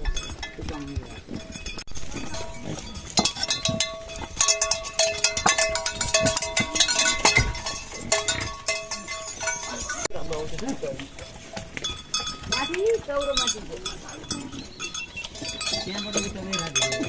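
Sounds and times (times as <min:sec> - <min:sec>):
metal bells clanking: 0:00.0 - 0:17.0.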